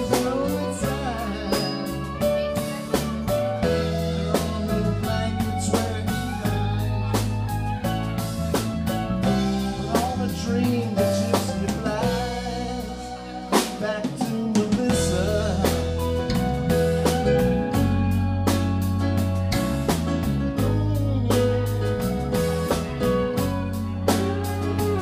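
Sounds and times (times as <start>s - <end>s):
man singing: 0.0s - 18.2s, 20.5s - 25.0s
live rock band playing: 0.0s - 25.0s.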